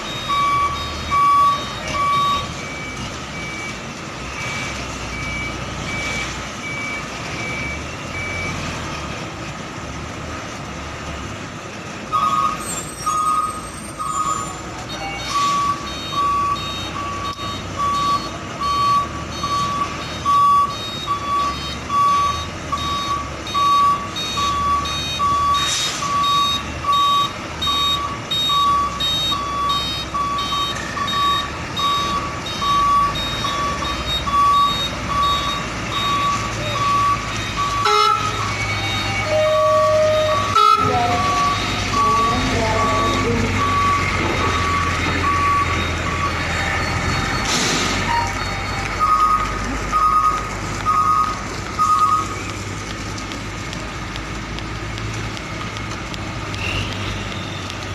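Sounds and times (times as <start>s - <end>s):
truck reversing alarm beeping: 0.0s - 10.0s, 10.8s - 57.9s
diesel engine running: 0.0s - 57.9s.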